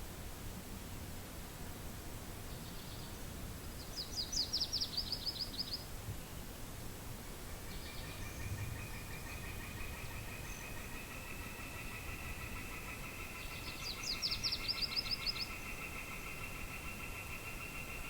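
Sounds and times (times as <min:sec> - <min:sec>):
faint low wind rumble: 0:00.0 - 0:18.0.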